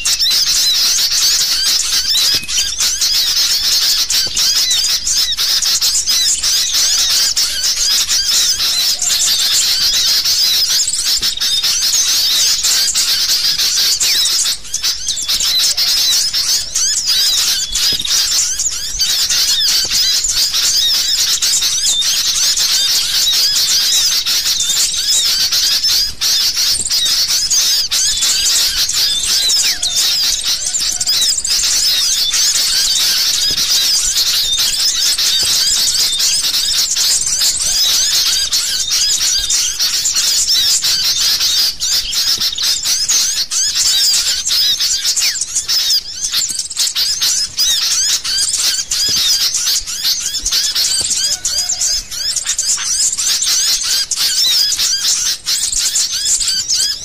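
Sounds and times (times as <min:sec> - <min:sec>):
birds chattering and squealing: 0:00.0 - 0:57.0.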